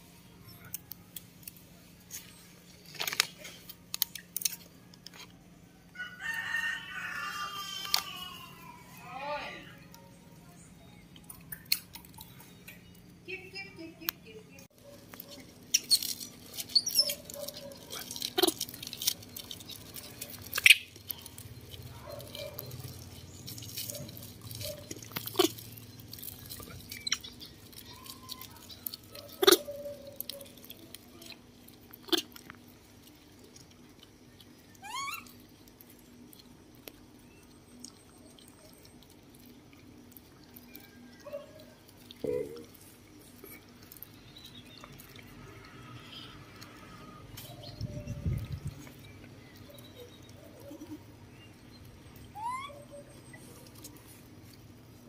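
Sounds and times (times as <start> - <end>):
animals crunching and chewing: 0.0 - 55.0.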